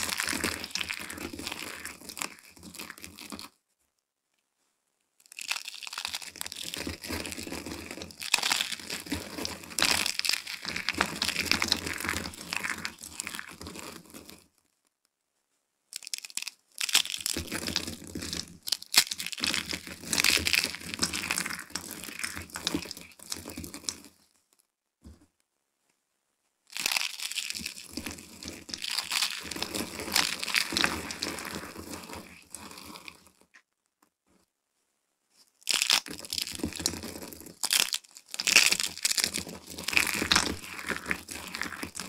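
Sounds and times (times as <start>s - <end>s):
soap shavings crunching: 0.0s - 3.6s, 5.2s - 14.4s, 16.0s - 24.2s, 26.7s - 33.4s, 35.5s - 42.0s.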